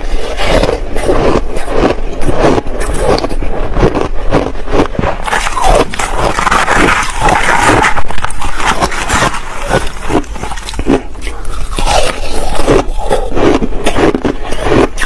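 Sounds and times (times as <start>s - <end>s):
crushed ice being chewed: 0.0s - 15.0s.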